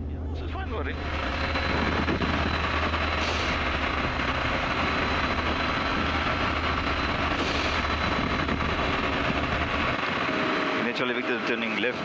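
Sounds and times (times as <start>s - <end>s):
airflow noise: 0.0s - 11.0s
aircraft engine running: 0.0s - 12.0s.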